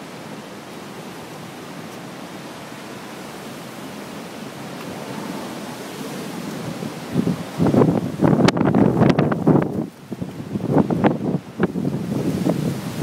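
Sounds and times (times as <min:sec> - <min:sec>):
rain: 0:00.0 - 0:13.0
storm wind: 0:00.0 - 0:13.0.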